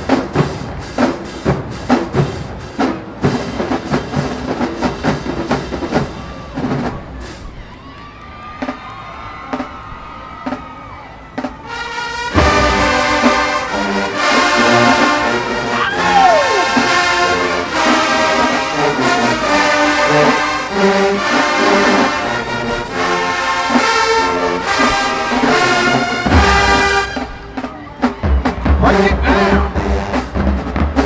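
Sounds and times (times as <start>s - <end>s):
marching band brass chords: 0.0s - 7.6s, 9.4s - 31.0s.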